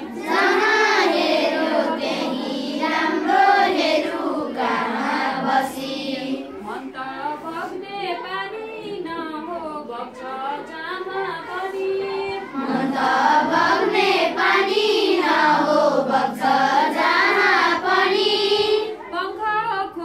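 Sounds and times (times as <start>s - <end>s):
children singing in chorus: 0.0s - 19.4s.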